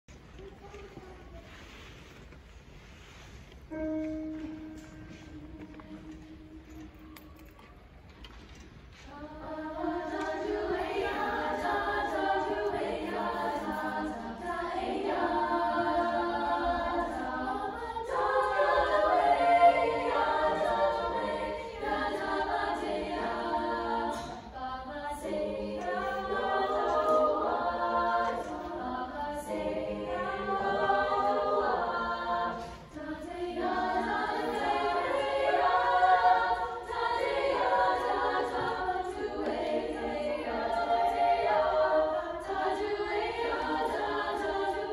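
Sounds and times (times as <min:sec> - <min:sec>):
girls' choir singing a cappella: 0:03.7 - 0:07.8, 0:09.0 - 0:44.9.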